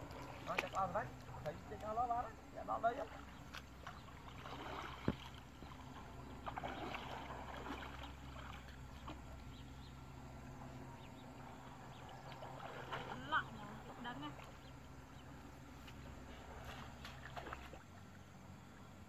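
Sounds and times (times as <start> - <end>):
people wading through water: 0.0 - 19.0.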